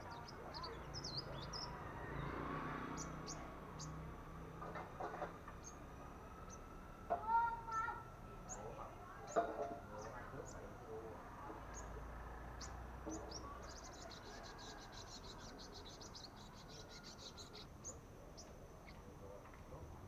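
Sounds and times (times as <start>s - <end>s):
young birds chipping: 0.0s - 20.0s.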